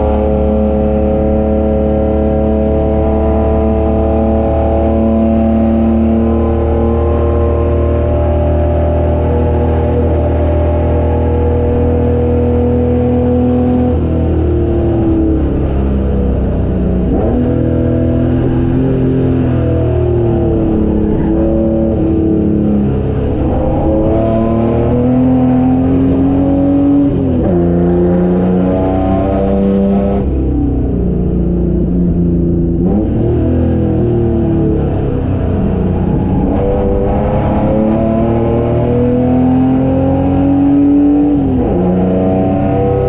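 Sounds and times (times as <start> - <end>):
race car engine under load: 0.0 - 43.0.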